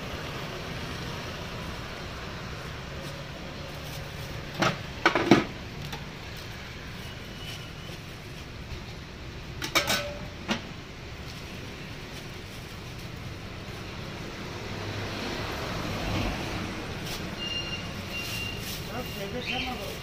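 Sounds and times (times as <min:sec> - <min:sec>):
street traffic hum: 0:00.0 - 0:20.0.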